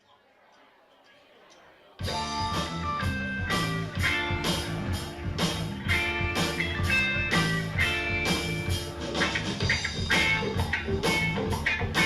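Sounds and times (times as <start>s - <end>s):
rock band with guitar: 2.0s - 12.0s.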